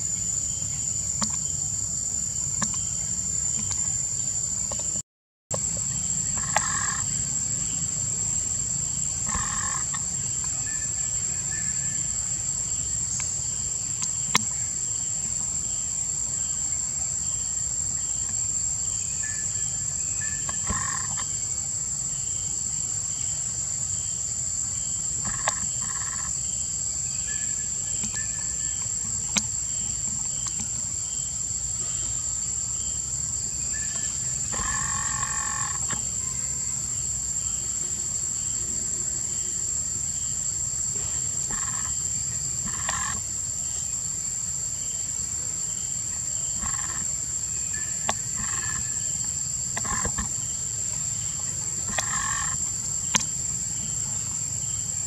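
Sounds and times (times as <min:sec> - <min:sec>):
high-pitched insect drone: 0:05.6 - 0:55.0.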